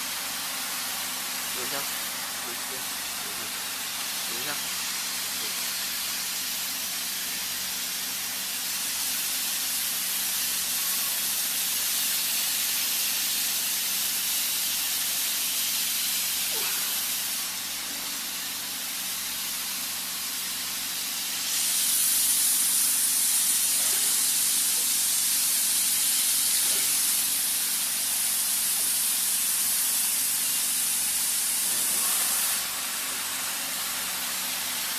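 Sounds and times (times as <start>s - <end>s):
hot air blower hissing: 0.0s - 34.9s.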